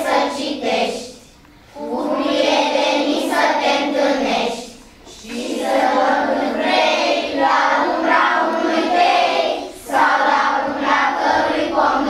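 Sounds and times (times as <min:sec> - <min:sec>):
children singing together: 0:00.0 - 0:12.0.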